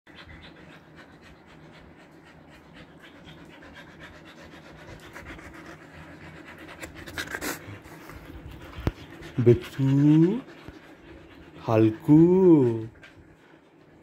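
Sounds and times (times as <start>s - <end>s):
dog panting rapidly: 0.1s - 14.0s.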